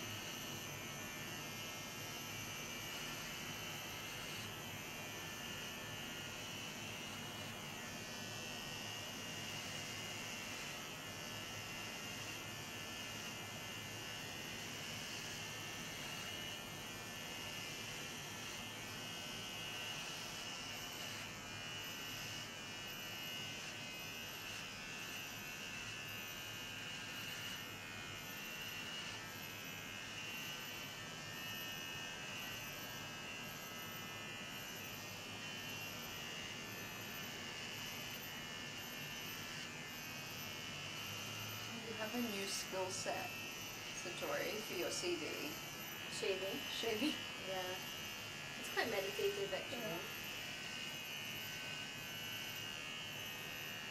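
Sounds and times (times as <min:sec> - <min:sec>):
electric hair clippers running: 0:00.0 - 0:53.9.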